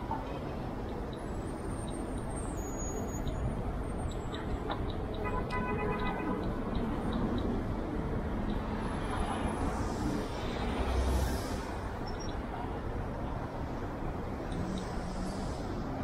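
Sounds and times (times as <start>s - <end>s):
car and bus engines: 0.0s - 16.0s.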